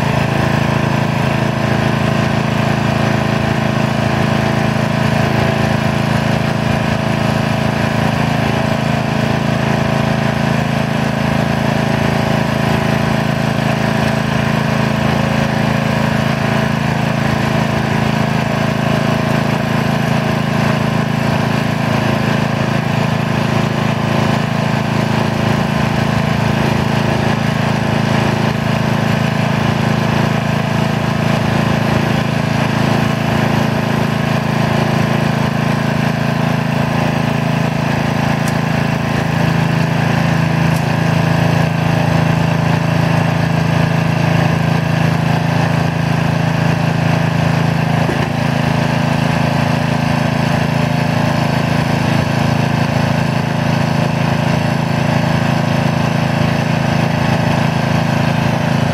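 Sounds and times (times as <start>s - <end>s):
mini excavator engine digging: 0.0s - 58.9s
motorised dumper engine: 0.0s - 58.9s.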